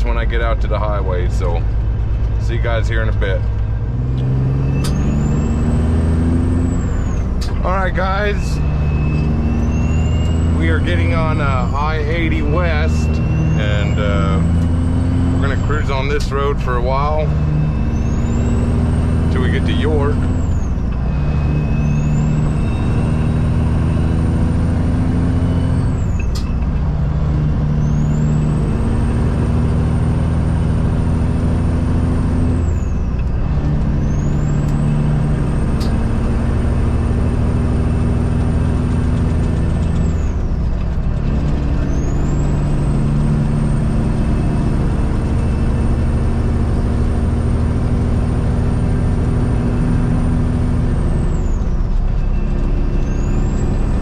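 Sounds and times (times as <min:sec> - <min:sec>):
truck diesel engine shifting gears: 0:00.0 - 0:54.0
turbo whine: 0:00.5 - 0:54.0.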